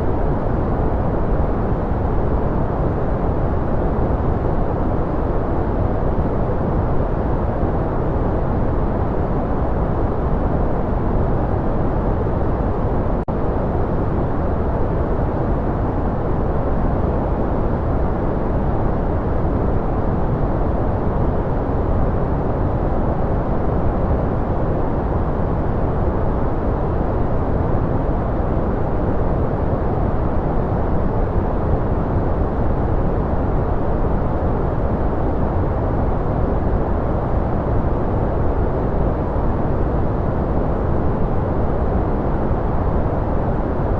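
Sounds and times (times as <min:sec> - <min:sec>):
deep muffled white noise: 0:00.0 - 0:43.9.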